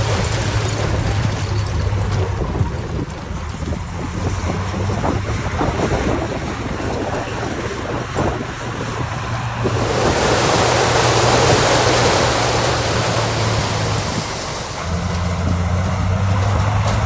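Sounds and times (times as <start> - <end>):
wind on microphone: 0.0 - 15.8
diesel engine running: 0.0 - 17.0.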